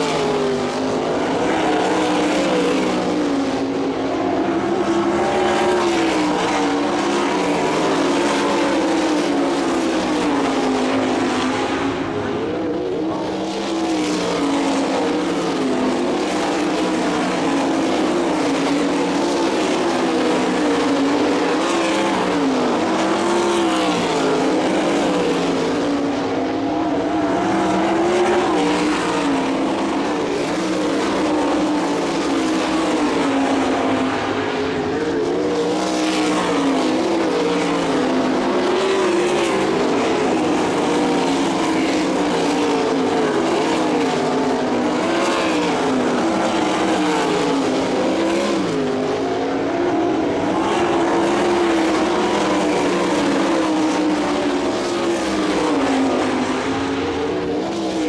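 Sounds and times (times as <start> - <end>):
race car engines at high revs: 0.0 - 58.0.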